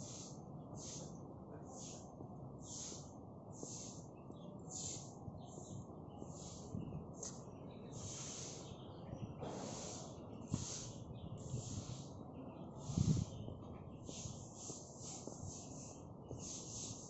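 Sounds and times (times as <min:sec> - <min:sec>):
rhythmic hissing pulses: 0:00.0 - 0:06.8, 0:07.9 - 0:12.2, 0:12.8 - 0:17.0.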